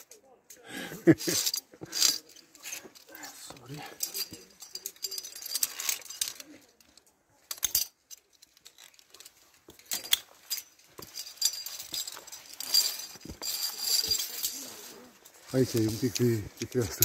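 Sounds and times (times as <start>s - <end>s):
carabiners clinking on steel cable: 0.0s - 17.0s.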